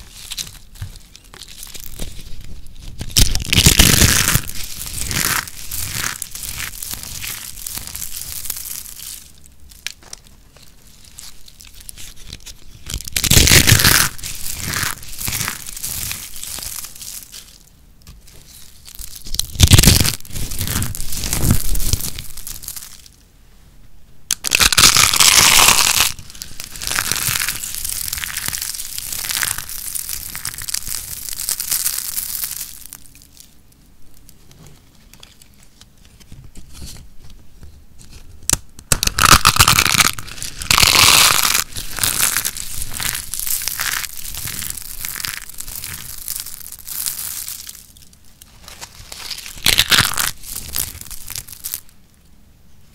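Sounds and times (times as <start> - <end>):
hands crunching dry soap flakes: 0.0 - 23.2, 24.3 - 33.6, 38.1 - 52.0
soap flakes rustling: 0.0 - 23.2, 24.4 - 33.6, 39.0 - 52.0.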